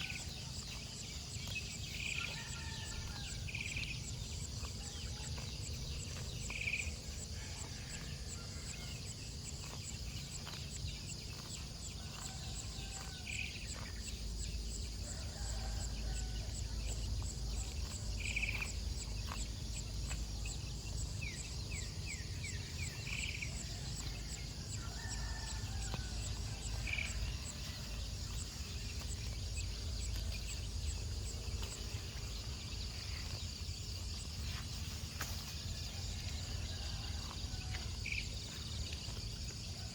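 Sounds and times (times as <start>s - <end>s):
insects trilling: 0.0s - 39.9s
low rumble of wind: 0.0s - 39.9s.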